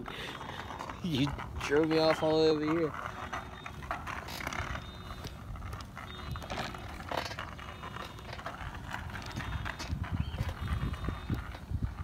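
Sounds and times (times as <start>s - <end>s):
bicycle clicking and rattling: 0.0s - 12.0s
wind rumble: 0.0s - 12.0s.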